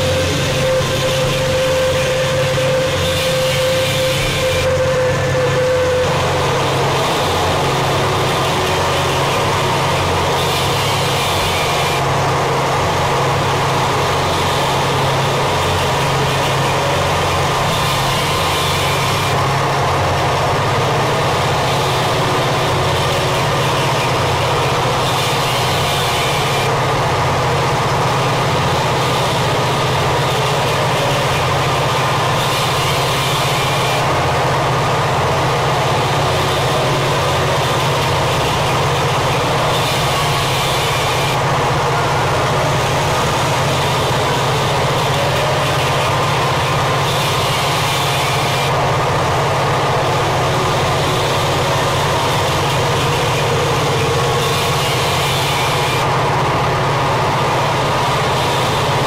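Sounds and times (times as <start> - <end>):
distorted noise music: 0.0 - 59.0
low drone: 0.0 - 59.0.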